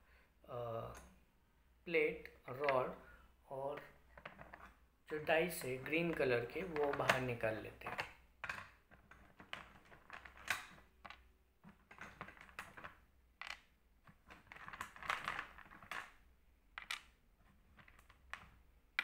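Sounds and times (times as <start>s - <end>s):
plastic cubes clicking and clattering: 3.8s - 19.0s.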